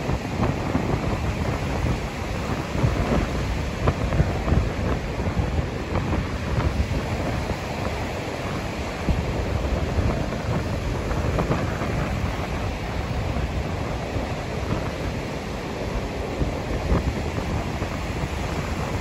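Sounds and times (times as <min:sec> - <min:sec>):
surf breaking on sandy shore: 0:00.0 - 0:19.0
wind gusting on microphone: 0:00.0 - 0:19.0.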